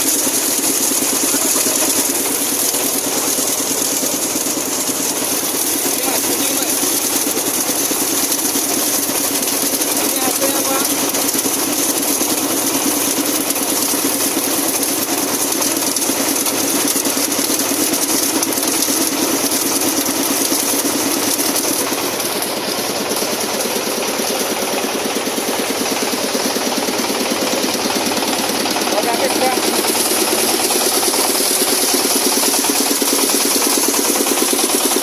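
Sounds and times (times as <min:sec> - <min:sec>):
plastic shredder machine clattering: 0:00.0 - 0:35.0.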